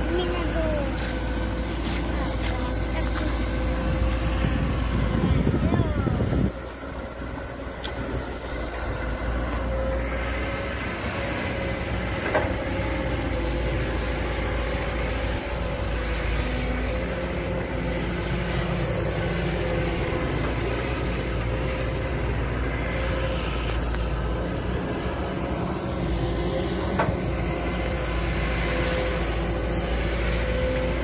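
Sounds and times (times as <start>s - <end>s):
engine whine: 0.0s - 31.0s
excavator diesel engine running: 0.0s - 31.0s.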